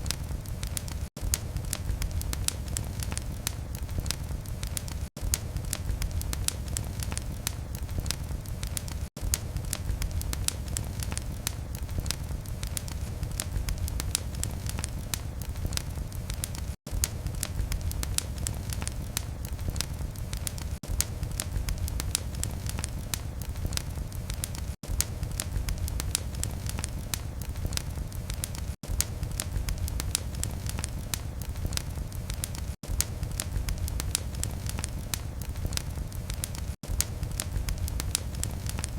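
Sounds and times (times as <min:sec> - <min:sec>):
fire crackling: 0:00.0 - 0:38.9
low rumble of flames: 0:00.0 - 0:38.9.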